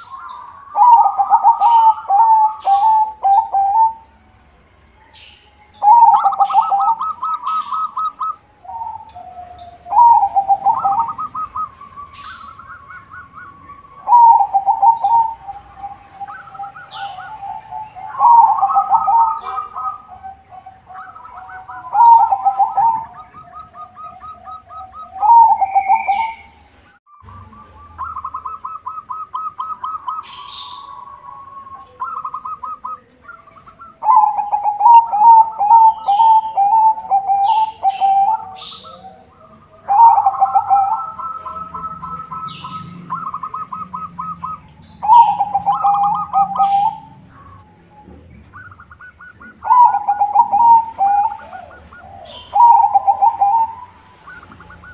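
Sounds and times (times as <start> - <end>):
doves cooing: 0.0 - 4.4, 5.0 - 54.9
small birds chirping: 0.0 - 54.9.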